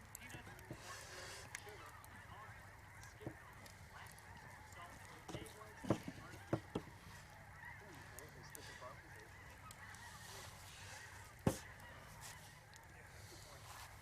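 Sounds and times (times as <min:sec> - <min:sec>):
faint honking bird calls: 0:00.0 - 0:14.0.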